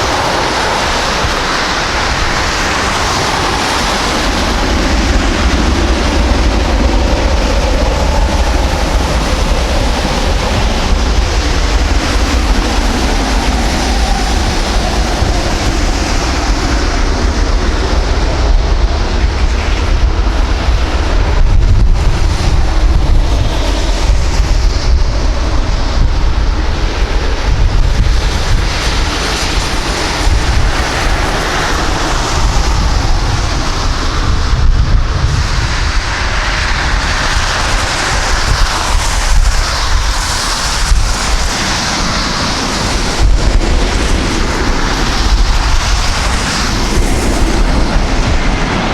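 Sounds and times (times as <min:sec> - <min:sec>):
jet engines roaring: 0:00.0 - 0:48.9
wind buffeting microphone: 0:00.0 - 0:48.9.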